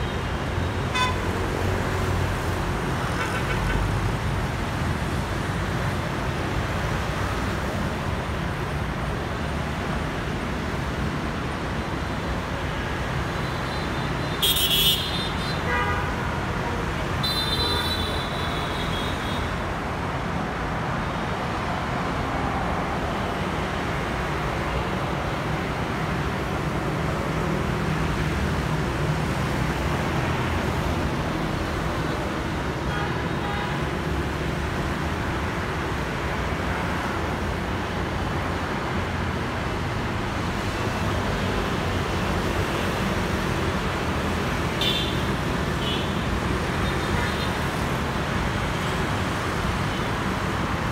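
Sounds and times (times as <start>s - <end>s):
traffic hum: 0.0s - 50.9s.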